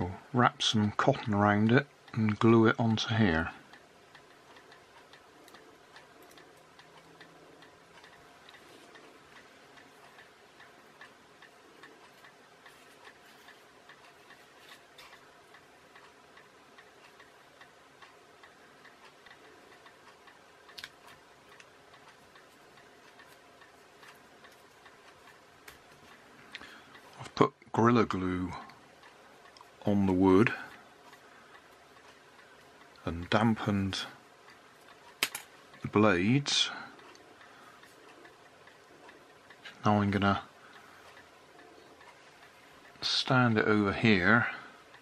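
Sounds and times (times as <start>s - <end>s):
clock ticking: 0.0s - 45.0s.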